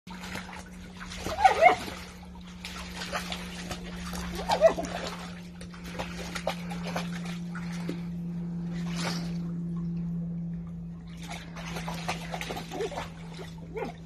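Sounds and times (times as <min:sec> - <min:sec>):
dog splashing in water: 0:00.1 - 0:14.0.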